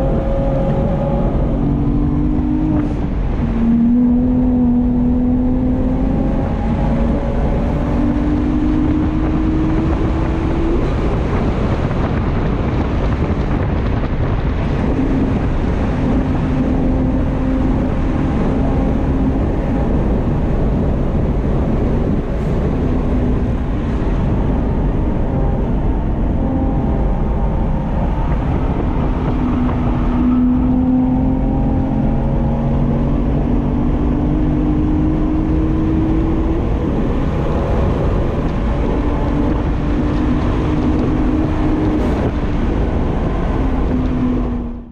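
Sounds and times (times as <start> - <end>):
car engine accelerating: 0.0 - 44.9
road and wind noise: 0.0 - 44.9.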